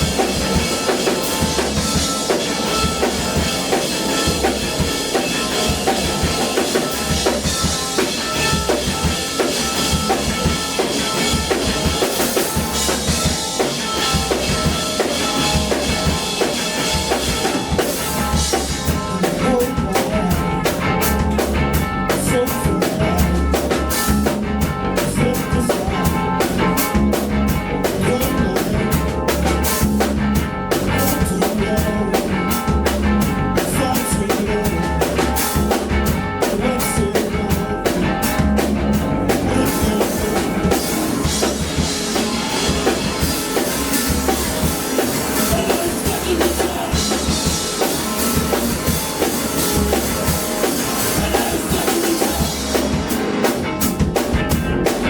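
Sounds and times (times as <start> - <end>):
drum beat: 0.0 - 55.0
sustained guitar chords: 0.0 - 55.0.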